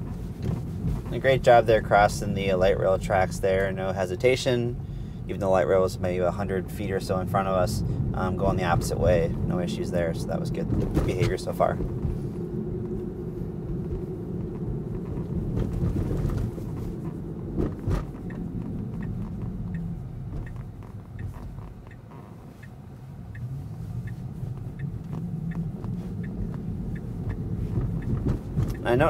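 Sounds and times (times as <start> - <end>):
tyre and road noise rumble: 0.0 - 29.0.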